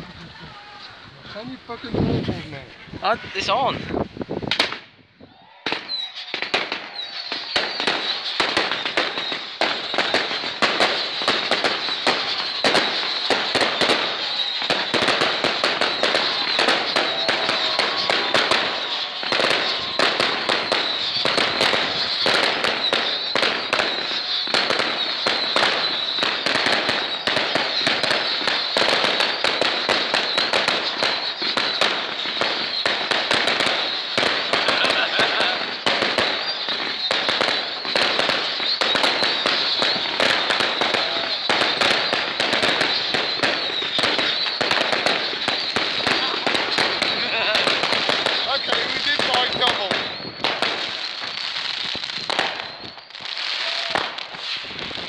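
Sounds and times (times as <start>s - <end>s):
firework bangs and crackles: 0.0s - 55.0s
firework high hiss: 5.9s - 55.0s.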